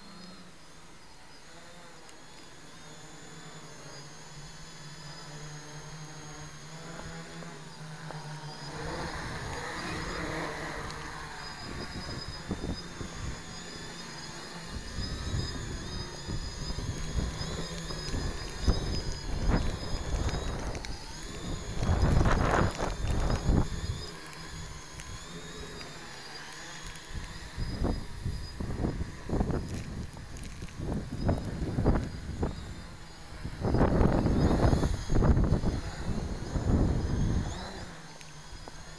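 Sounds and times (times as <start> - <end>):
quadcopter propeller buzz: 0.0 - 38.9.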